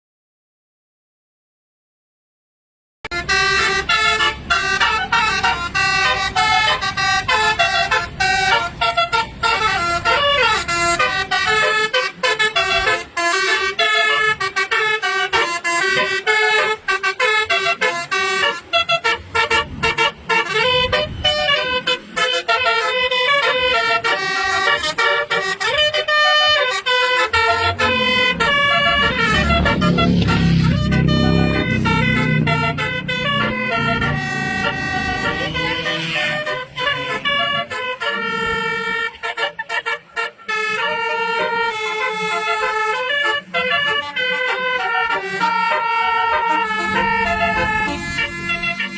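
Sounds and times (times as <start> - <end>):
musical bus horn tune: 3.0 - 48.9
low engine rumble: 3.1 - 48.9.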